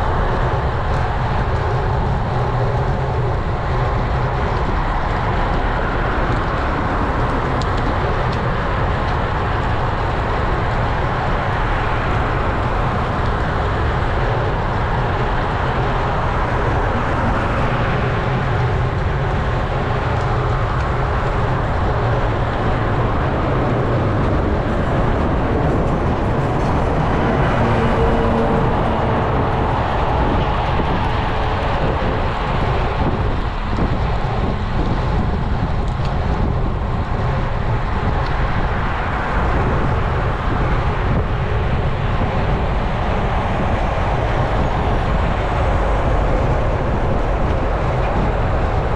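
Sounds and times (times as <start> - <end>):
bicycle road noise: 0.0 - 48.9
wind rush on microphone: 0.0 - 48.9.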